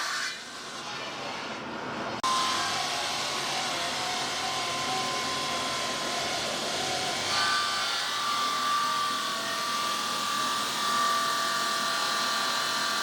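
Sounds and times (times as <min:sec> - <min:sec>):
stone saw grinding with whine: 0:02.2 - 0:13.0.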